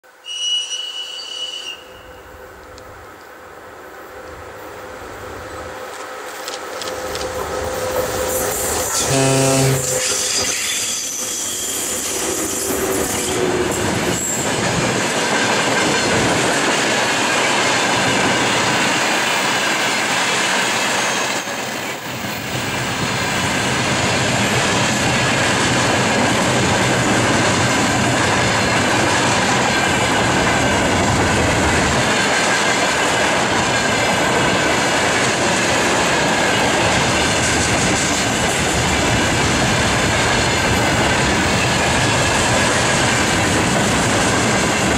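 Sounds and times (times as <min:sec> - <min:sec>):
train wheels rumbling and clattering: 0:04.2 - 0:44.9.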